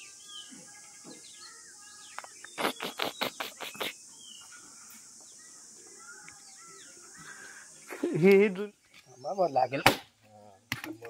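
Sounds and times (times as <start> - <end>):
small birds chirping: 0.0 - 11.0
steady high hiss: 0.0 - 11.0.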